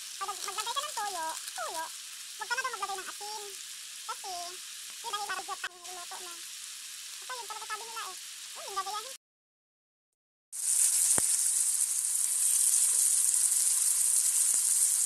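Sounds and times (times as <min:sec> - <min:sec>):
food sizzling in wok: 0:00.0 - 0:09.2, 0:10.5 - 0:15.0.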